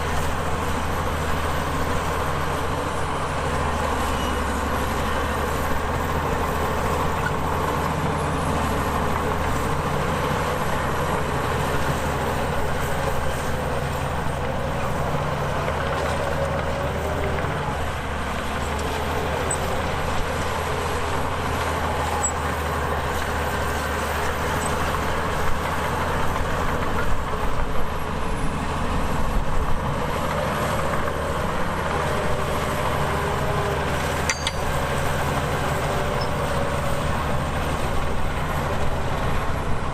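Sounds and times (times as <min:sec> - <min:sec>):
diesel earthmoving machinery running: 0:00.0 - 0:39.9.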